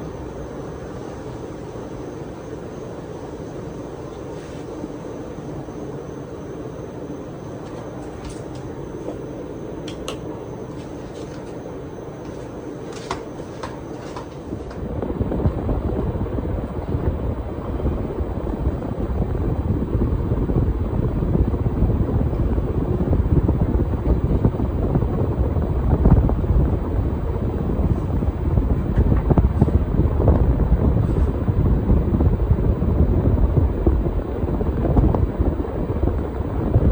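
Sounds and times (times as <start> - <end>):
ceiling fan clicks: 0.0 - 36.9
ceiling fan whoosh and rumble: 0.0 - 36.9.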